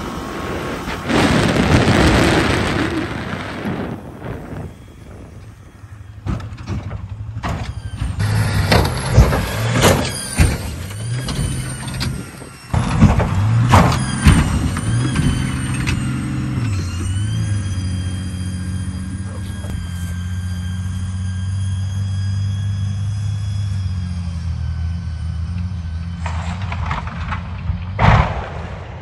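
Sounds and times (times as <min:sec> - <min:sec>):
bus engine running hard: 0:00.0 - 0:26.8.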